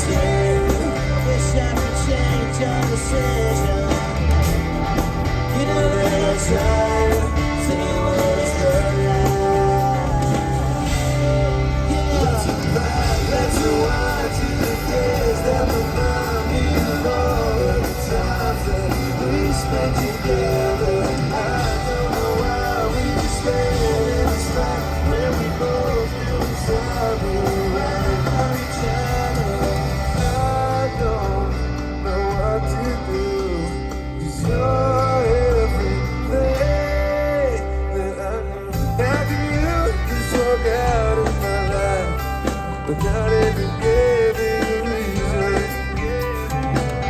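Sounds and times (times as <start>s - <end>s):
bass guitar: 0.0s - 47.0s
drums: 0.0s - 47.0s
electric guitars: 0.0s - 47.0s
person singing: 0.0s - 47.0s.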